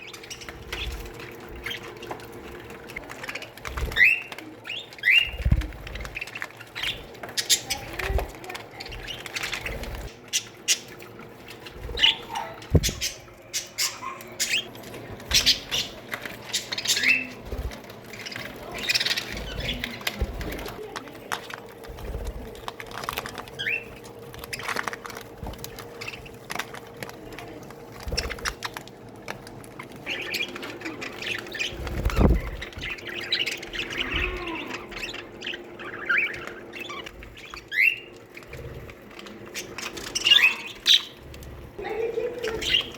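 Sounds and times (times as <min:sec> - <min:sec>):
budgerigars chirping and squawking: 0:00.0 - 0:42.9
wings fluttering: 0:00.0 - 0:42.9.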